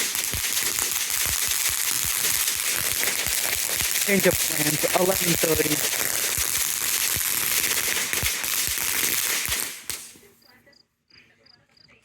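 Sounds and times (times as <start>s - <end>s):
firework hissing and crackling: 0.0s - 10.3s.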